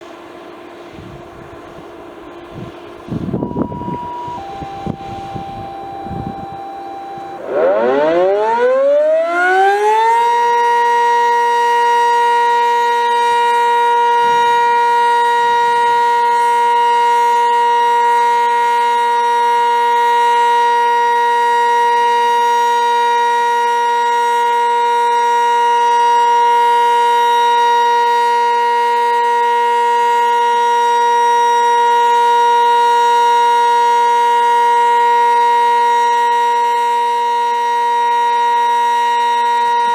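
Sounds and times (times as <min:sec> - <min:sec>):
warning siren rising to steady tone: 0:00.4 - 0:39.9.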